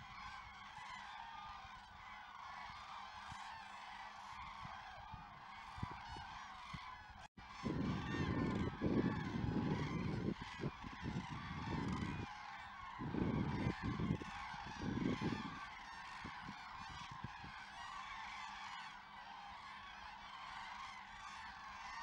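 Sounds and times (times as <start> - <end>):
cranes trumpeting calls: 0.0 - 22.0.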